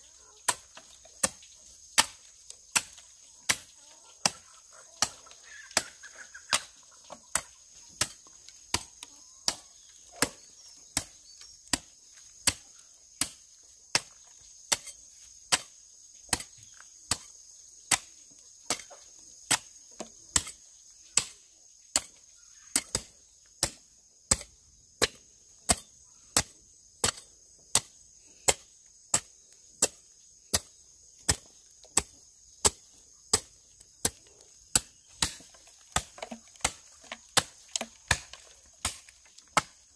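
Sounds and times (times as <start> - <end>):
hoe chopping into dry soil: 0.4 - 39.9.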